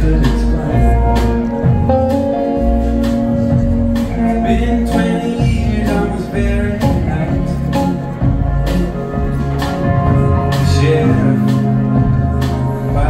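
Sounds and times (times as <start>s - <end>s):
electric bass: 0.0s - 13.0s
electric guitars: 0.0s - 13.0s
steady drum beat: 0.0s - 13.0s.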